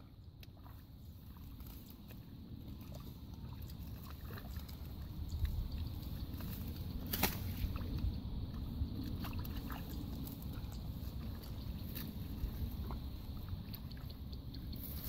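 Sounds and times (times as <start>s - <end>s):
muddy water splashes: 0.0s - 15.0s
hands squelching through mud: 0.3s - 15.0s.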